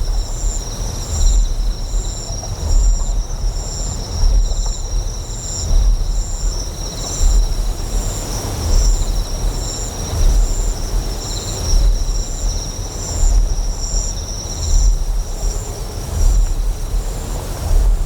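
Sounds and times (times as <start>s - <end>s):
insects chirping: 0.0s - 18.0s
pulsing generator hum: 0.0s - 18.0s.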